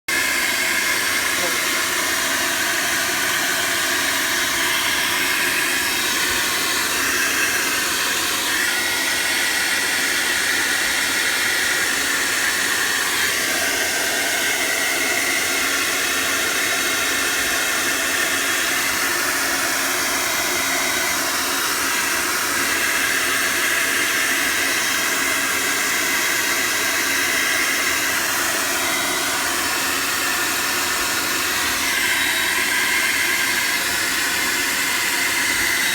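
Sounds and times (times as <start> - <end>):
hot-air blower rushing: 0.1 - 35.9.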